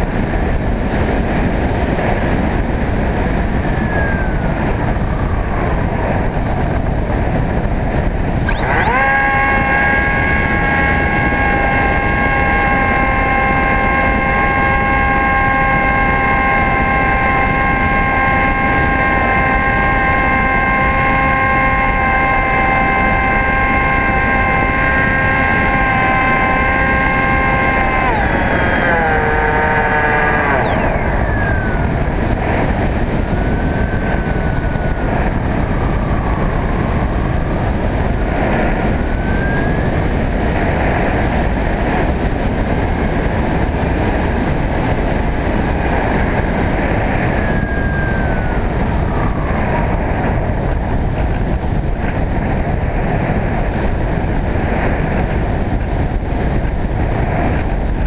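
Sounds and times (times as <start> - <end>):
electric motor and propeller whining: 0.0 - 58.0
wind rushing: 0.0 - 58.0.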